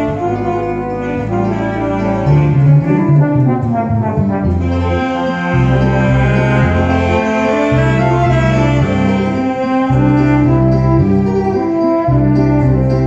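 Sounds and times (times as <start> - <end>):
tuba long bass notes: 0.0 - 13.0
wind ensemble playing slow melody: 0.0 - 13.0.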